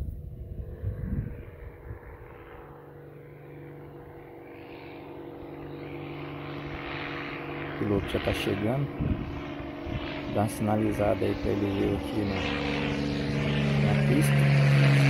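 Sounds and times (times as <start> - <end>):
propeller airplane engine drone: 0.0 - 15.0.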